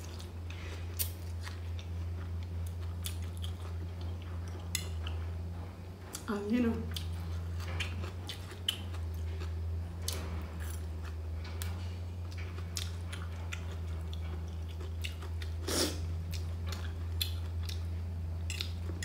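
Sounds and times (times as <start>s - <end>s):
wet chewing with crunches: 0.0s - 6.3s, 6.9s - 19.0s
steady low hum: 0.0s - 19.0s.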